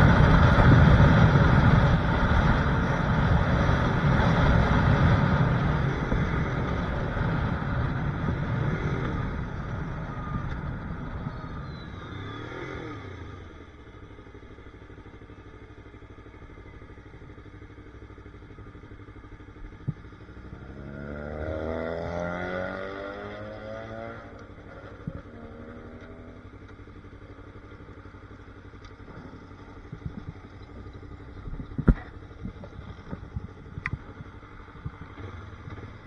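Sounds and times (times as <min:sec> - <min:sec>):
motorcycle engine: 0:00.0 - 0:36.0.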